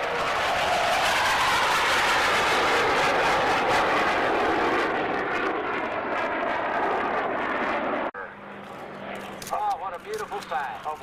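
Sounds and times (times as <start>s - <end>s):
military aircraft engines rushing: 0.0s - 11.0s.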